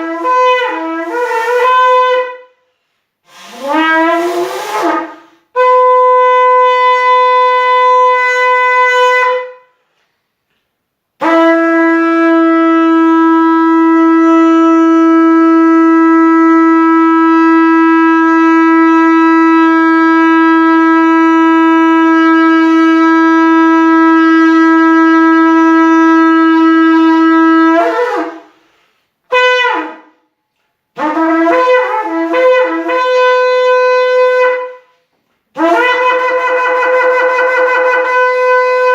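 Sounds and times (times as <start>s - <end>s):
shofar blasts: 0.0s - 9.8s, 11.2s - 38.9s.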